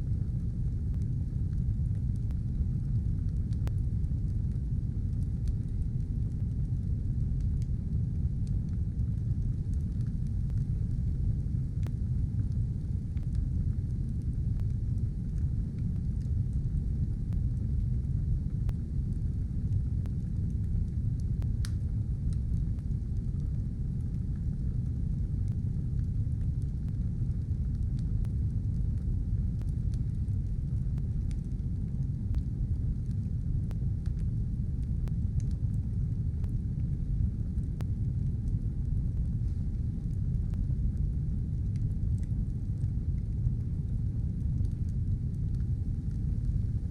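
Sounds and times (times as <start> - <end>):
fire crackling and popping: 0.0 - 46.9
fire rumbling in a stove: 0.0 - 46.9.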